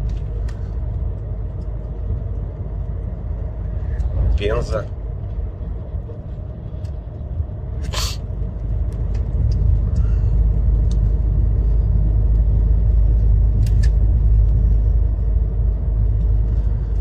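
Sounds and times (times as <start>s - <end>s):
truck engine and tyres rumbling: 0.0s - 17.0s.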